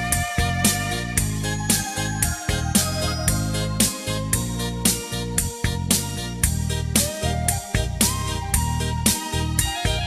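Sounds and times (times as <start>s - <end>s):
background music with bass and guitar: 0.0s - 10.0s.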